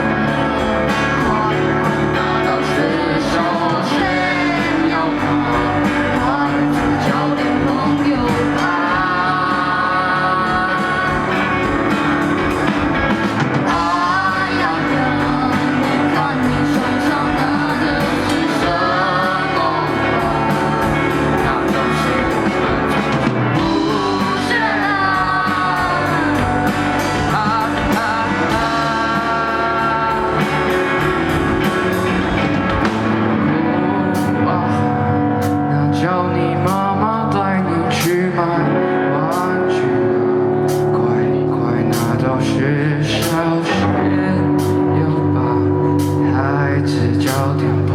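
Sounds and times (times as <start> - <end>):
rock song with singing: 0.0 - 47.9.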